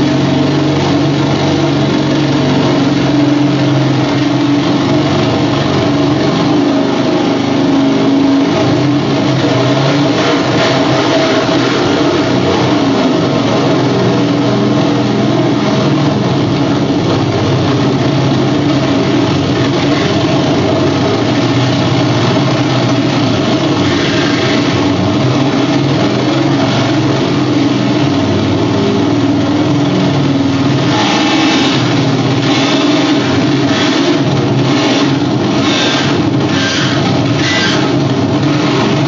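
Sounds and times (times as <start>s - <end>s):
calculators rattling in electric fans: 0.0s - 39.0s.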